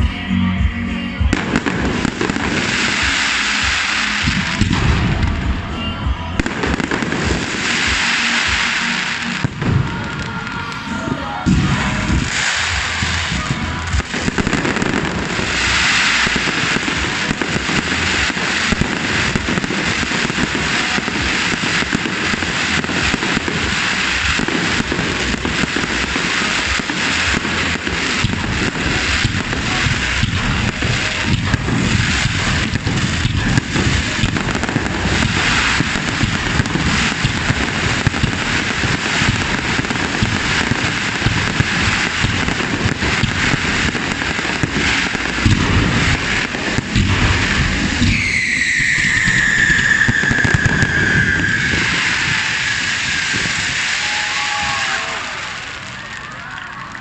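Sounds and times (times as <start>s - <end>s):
fireworks banging and crackling: 0.0s - 57.0s.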